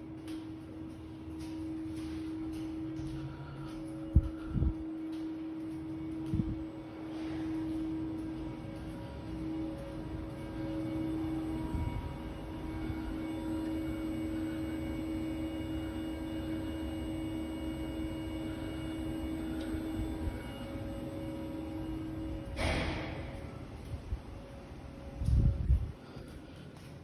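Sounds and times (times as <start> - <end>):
steady droning hum: 0.0 - 27.0.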